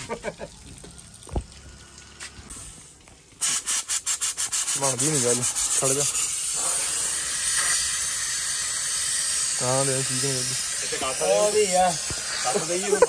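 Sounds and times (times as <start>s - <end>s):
water and air sputtering from valve: 0.0s - 13.0s.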